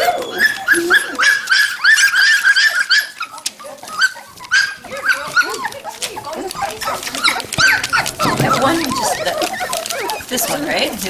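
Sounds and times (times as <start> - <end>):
puppies yipping and whining: 0.0 - 11.0.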